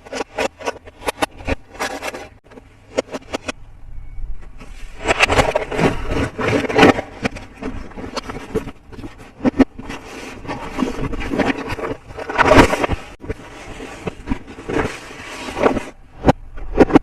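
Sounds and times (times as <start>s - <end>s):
plastic pieces scraping and rubbing: 0.0s - 3.6s, 4.6s - 17.0s.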